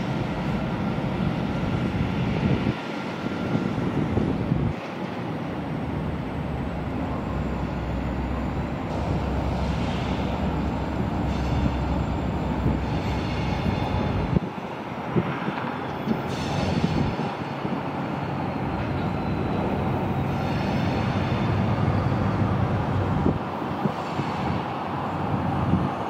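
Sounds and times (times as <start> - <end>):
diesel locomotive engine rumble: 0.0 - 26.0
wheels squealing on rails: 0.0 - 26.0.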